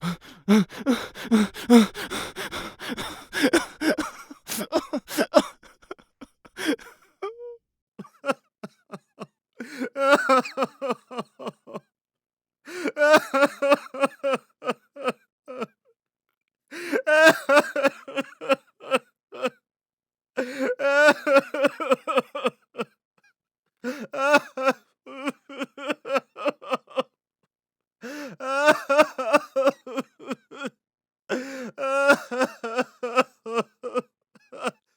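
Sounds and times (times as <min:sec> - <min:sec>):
man sobbing: 0:00.0 - 0:11.8, 0:12.7 - 0:15.7, 0:16.7 - 0:19.6, 0:20.4 - 0:23.0, 0:23.8 - 0:27.1, 0:28.0 - 0:34.8.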